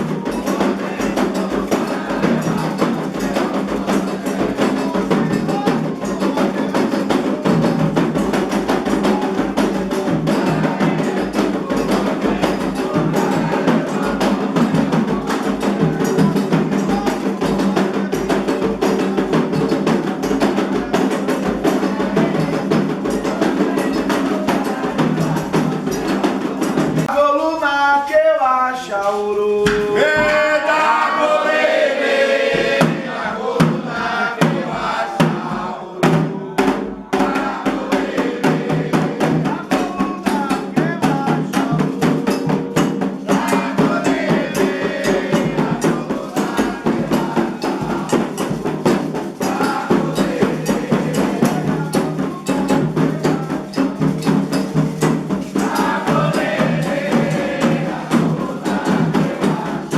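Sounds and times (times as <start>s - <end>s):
hand drums: 0.0s - 27.6s, 29.0s - 59.9s
voices singing a chant: 0.0s - 59.9s.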